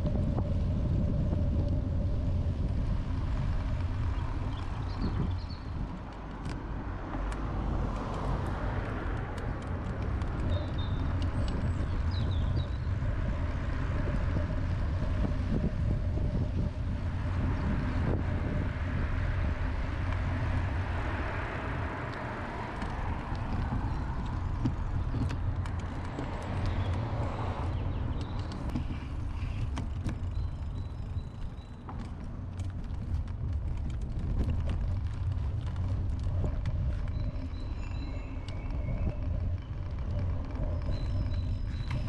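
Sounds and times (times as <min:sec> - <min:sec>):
road traffic rumble and hiss: 0:00.0 - 0:42.0.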